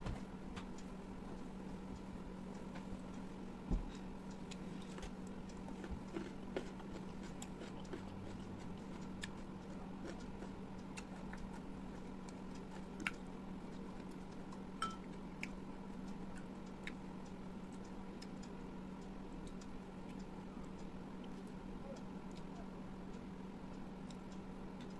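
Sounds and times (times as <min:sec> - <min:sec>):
low electrical hum: 0:00.0 - 0:24.9.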